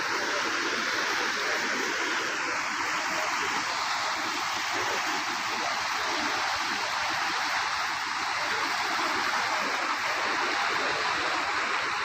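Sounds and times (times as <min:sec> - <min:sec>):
floodwater rushing across road: 0:00.0 - 0:12.0.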